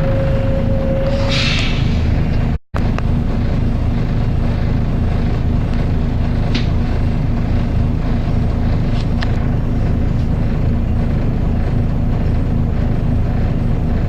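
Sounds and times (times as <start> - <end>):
bus diesel engine and cooling fan: 0.0 - 14.0.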